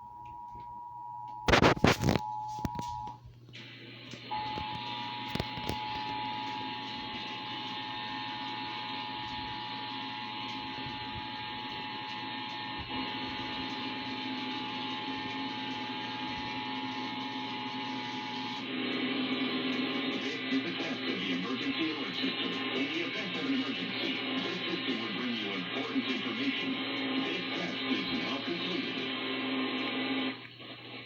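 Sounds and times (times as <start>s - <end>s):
broadcast hiss: 1.4s - 31.0s.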